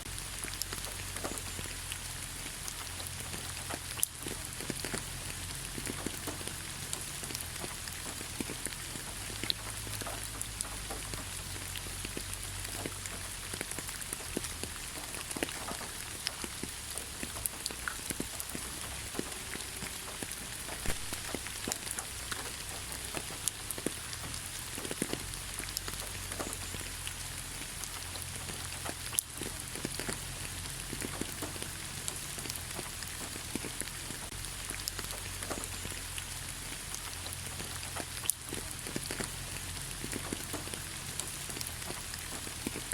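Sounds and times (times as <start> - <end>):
light rain on leaves: 0.0 - 42.9.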